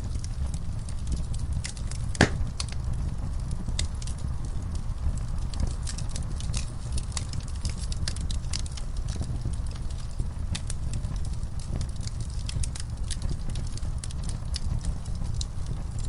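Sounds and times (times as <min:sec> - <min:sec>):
wood fire crackling and snapping: 0:00.0 - 0:16.0.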